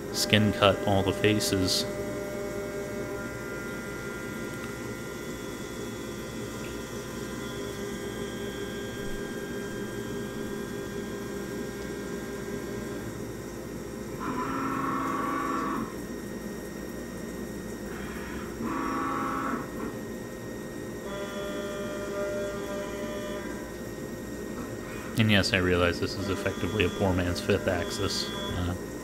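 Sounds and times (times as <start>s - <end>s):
spindle whine: 0.0s - 16.6s, 17.3s - 29.0s
loud two-tone hum: 0.0s - 29.0s.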